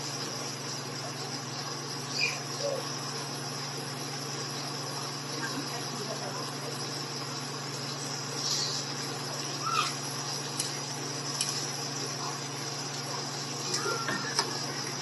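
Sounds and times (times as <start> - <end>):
food sizzling in a wok: 0.0 - 15.0
steady low hum: 0.0 - 15.0.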